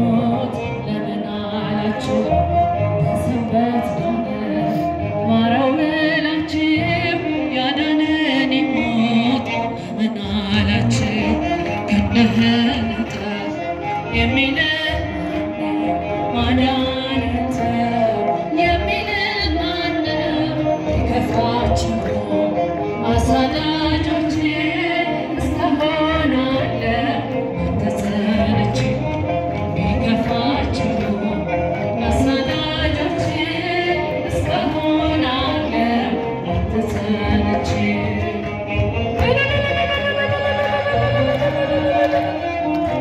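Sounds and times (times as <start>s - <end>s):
woman singing a hymn: 0.0s - 43.0s.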